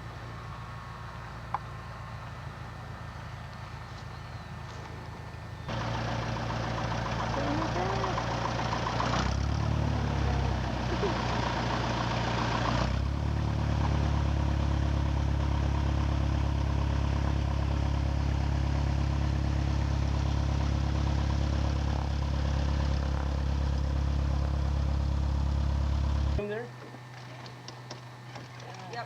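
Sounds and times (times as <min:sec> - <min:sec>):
airplane engine idling: 0:00.0 - 0:29.0.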